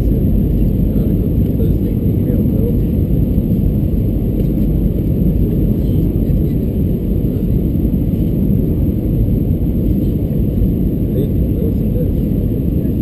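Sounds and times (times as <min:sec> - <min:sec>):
airflow noise: 0:00.0 - 0:13.0
airliner cabin engine rumble: 0:00.0 - 0:13.0.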